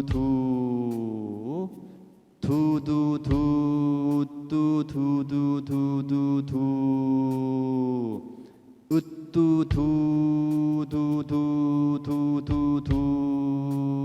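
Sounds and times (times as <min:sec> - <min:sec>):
man chanting du syllables: 0:00.0 - 0:14.0.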